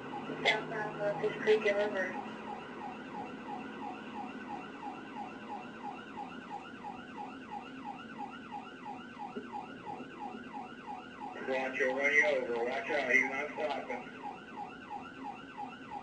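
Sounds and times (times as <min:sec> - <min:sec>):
police siren yelping: 0:00.0 - 0:16.0.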